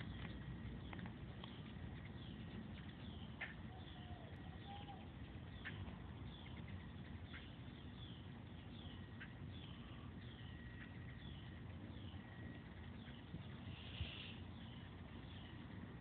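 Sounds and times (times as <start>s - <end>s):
low background hum: 0.0s - 16.0s
small birds chirping: 0.0s - 16.0s.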